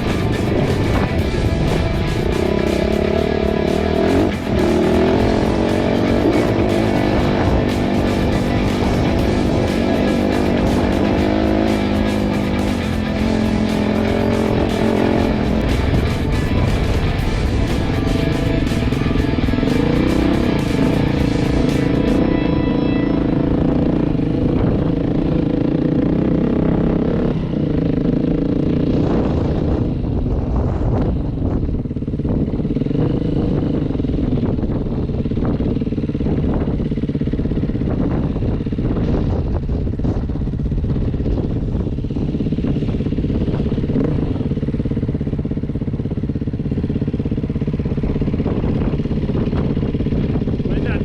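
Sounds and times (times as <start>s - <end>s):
motorcycle engine under load: 0.0s - 51.0s.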